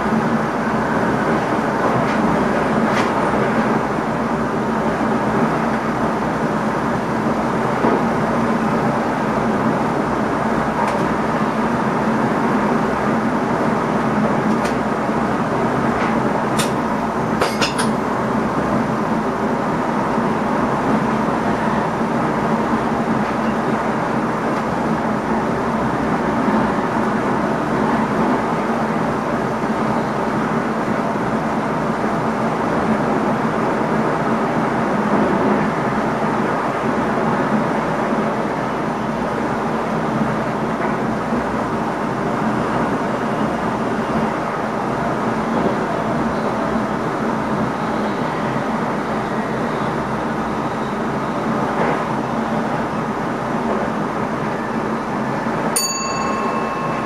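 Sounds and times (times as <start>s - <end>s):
train cab rumble and hum: 0.0s - 57.0s.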